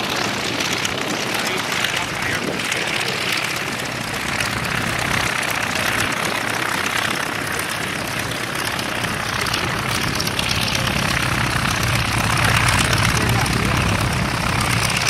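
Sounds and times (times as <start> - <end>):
propeller plane engine running: 0.0 - 15.0.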